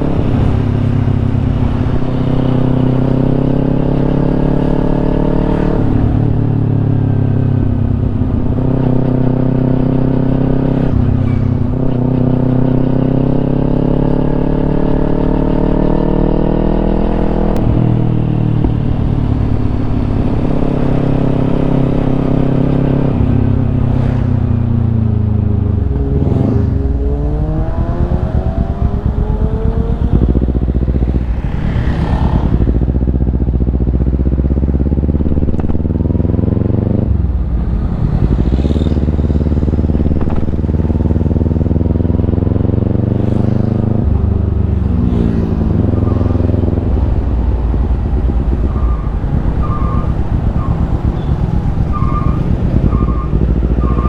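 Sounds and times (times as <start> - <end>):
motorcycle engine shifting gears: 0.0 - 54.0.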